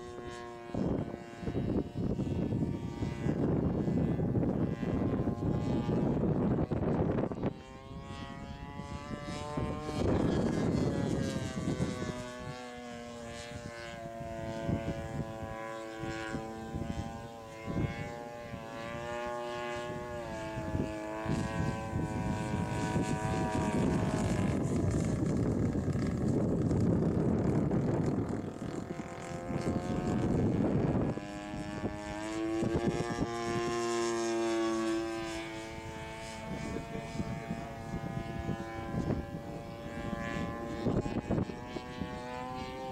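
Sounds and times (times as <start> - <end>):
buzzing propeller engine drone: 0.0 - 42.9.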